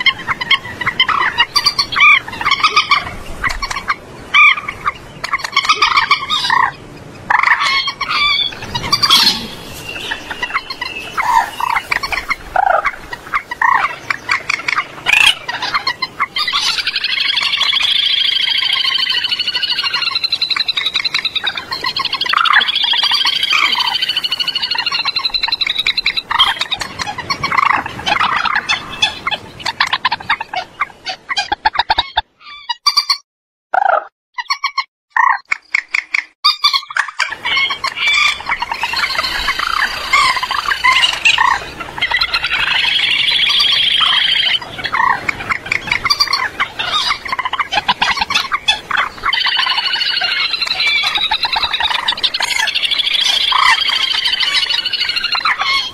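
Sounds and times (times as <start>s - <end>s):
moorhen croaking calls: 0.0s - 33.2s, 33.8s - 55.9s.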